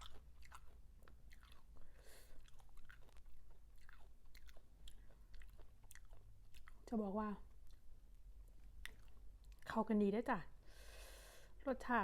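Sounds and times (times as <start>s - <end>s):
person chewing crunchy food: 0.0s - 9.8s.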